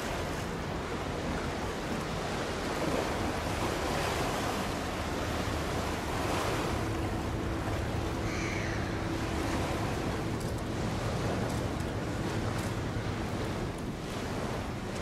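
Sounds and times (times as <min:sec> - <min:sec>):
rushing water: 0:00.0 - 0:15.0
rushing wind: 0:00.0 - 0:15.0
wind buffeting microphone: 0:00.0 - 0:15.0.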